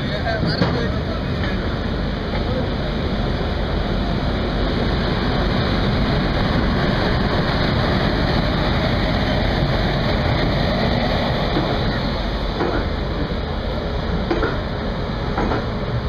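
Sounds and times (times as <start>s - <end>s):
train running rumble: 0.0s - 16.0s.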